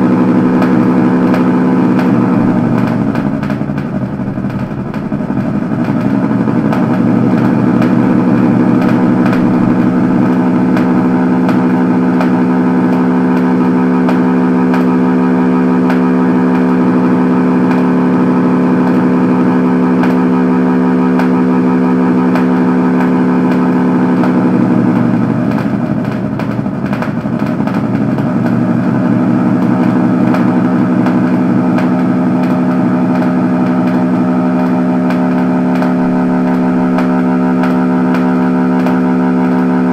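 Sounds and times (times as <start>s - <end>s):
engine-like droning buzz: 0.0s - 39.9s.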